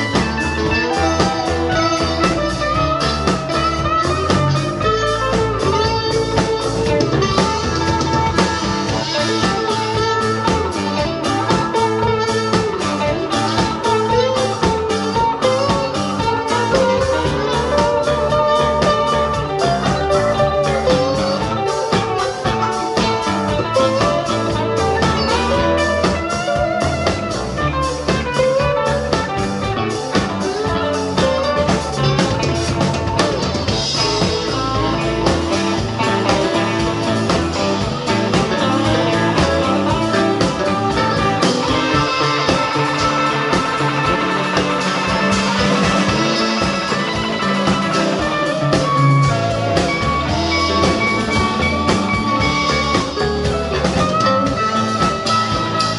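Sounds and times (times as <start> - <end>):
drum kit: 0.0 - 55.9
electric bass: 0.0 - 55.9
electric guitars: 0.0 - 55.9
keyboard: 0.0 - 55.9
saxophone: 0.0 - 55.9.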